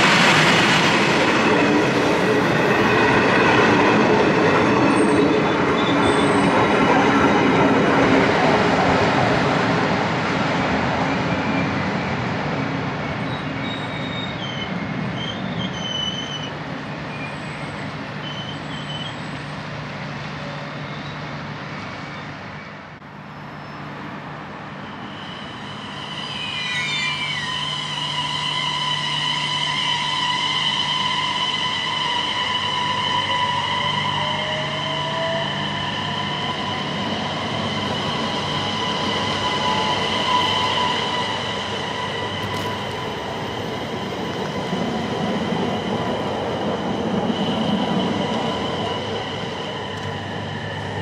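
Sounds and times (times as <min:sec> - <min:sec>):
high whining rail tones: 0:00.0 - 0:51.0
train running on rails: 0:00.0 - 0:51.0
train wheels squealing: 0:00.0 - 0:51.0.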